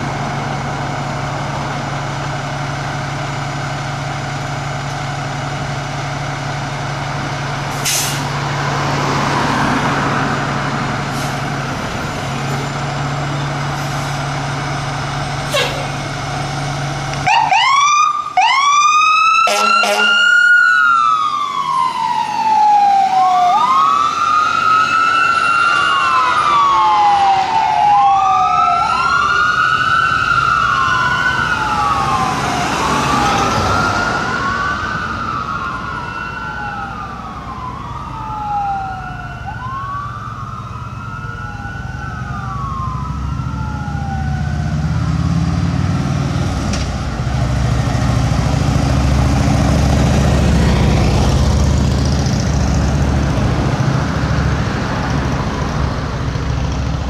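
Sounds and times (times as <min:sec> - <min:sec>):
fire engine siren sweeping: 0:00.0 - 0:57.0.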